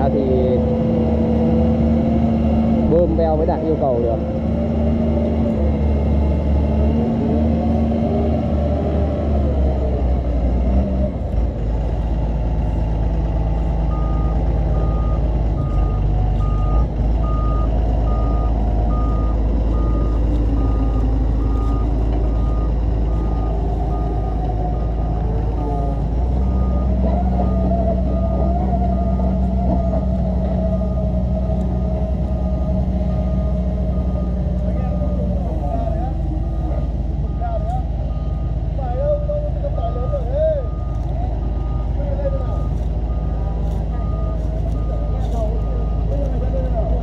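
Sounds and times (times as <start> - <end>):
excavator diesel engine under load: 0.0 - 47.0.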